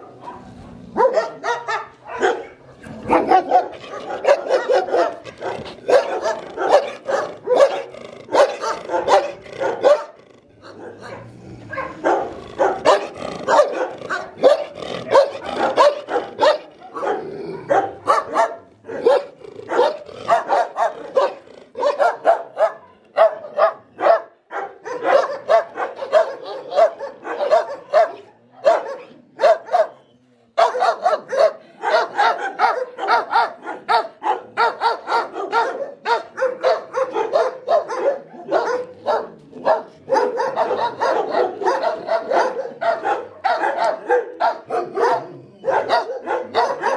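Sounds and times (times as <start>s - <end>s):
dogs barking: 0.0s - 46.9s.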